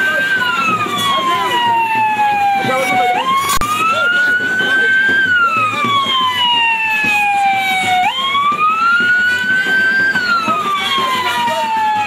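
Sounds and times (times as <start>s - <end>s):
vehicle siren wailing: 0.0s - 12.0s.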